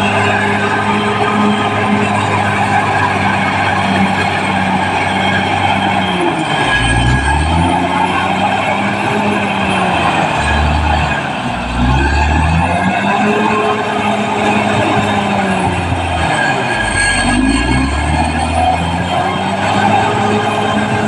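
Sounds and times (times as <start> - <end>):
bulldozer diesel engine: 0.0 - 21.0.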